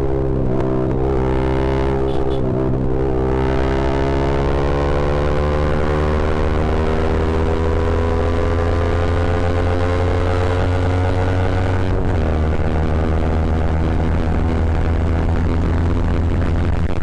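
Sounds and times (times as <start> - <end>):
motorcycle engine under throttle: 0.0 - 17.0.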